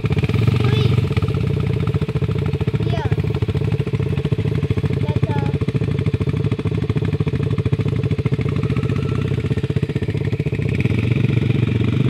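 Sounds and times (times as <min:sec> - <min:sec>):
quad engine running: 0:00.0 - 0:12.0.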